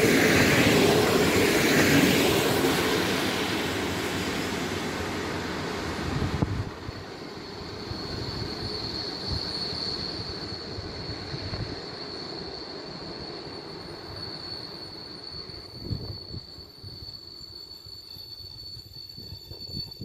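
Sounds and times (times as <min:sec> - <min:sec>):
train rumble: 0:00.0 - 0:20.0
train wheels squealing: 0:00.0 - 0:20.0.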